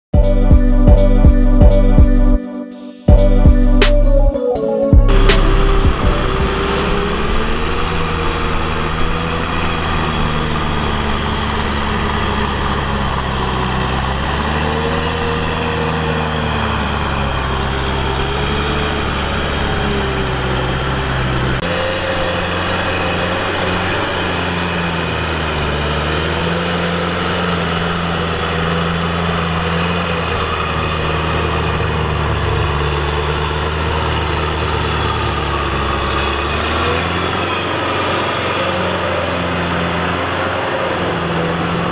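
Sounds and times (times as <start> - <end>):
tractor diesel engine running: 0.0 - 2.4, 3.1 - 41.9.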